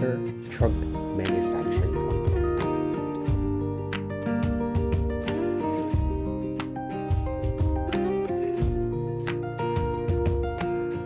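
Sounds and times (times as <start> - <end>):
plucked acoustic guitar: 0.0 - 11.0
bass line with steady beat: 0.6 - 10.9.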